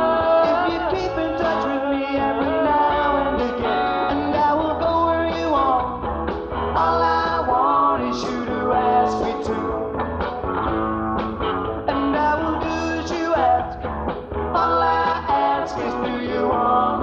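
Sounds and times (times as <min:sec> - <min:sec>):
live rock band playing: 0:00.0 - 0:17.0
sliding melodic lead line: 0:00.0 - 0:17.0.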